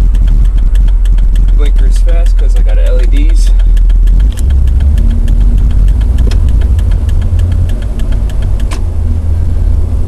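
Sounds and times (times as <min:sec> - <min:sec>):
sharp click: 0:00.0 - 0:08.9
car engine running: 0:00.0 - 0:10.0.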